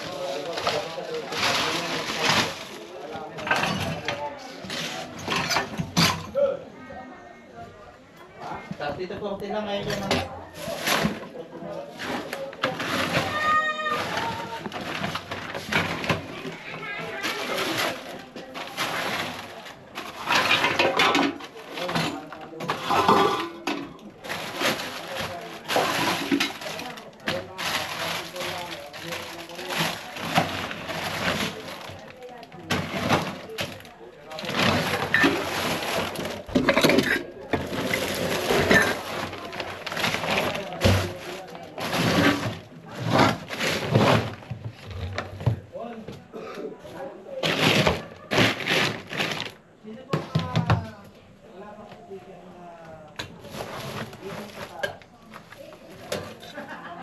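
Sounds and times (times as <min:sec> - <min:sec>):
household objects clattering: 0:00.0 - 0:06.5, 0:08.6 - 0:46.4, 0:47.3 - 0:51.0.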